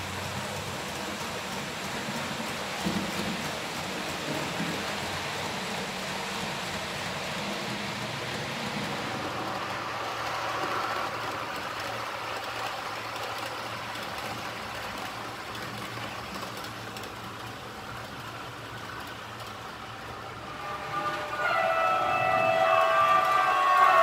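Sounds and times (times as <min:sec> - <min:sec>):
model train wheels on rails: 0:00.0 - 0:24.0.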